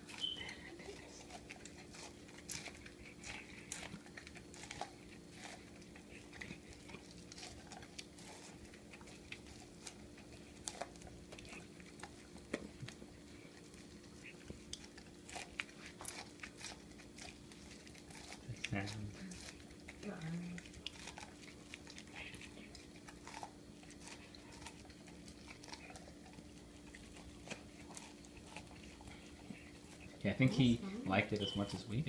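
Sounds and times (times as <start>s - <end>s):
dog chewing corn: 0.0s - 32.0s.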